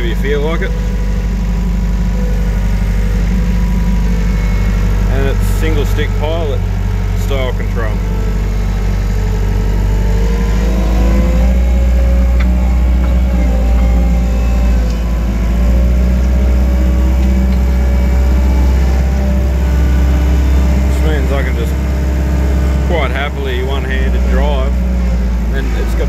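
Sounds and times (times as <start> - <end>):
loader diesel engine under load: 0.0 - 26.0.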